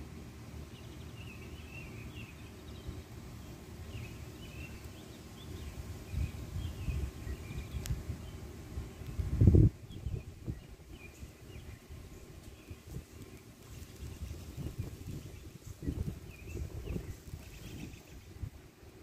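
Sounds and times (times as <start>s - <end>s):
birds chirping: 0.5s - 19.0s.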